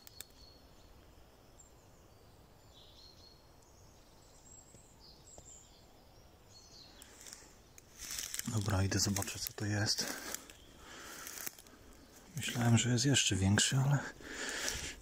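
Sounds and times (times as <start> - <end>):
faint bird chirps and trills: 0.0 - 15.0.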